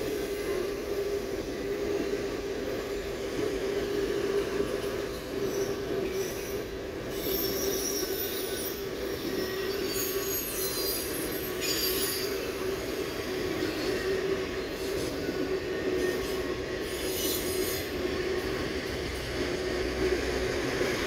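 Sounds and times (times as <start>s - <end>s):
train wheels squealing: 0.0s - 21.0s.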